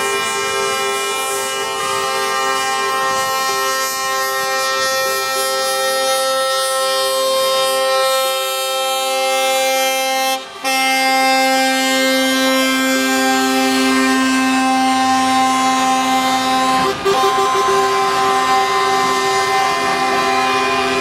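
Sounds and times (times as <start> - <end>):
truck air horns chord: 0.0 - 21.0.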